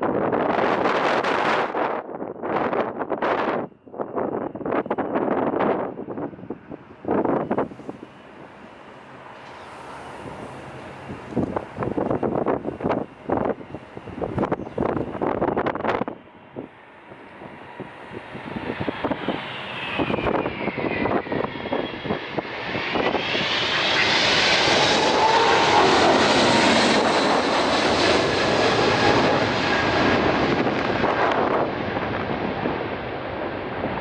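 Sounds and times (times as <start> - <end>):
airliner engine noise: 0.0 - 34.0.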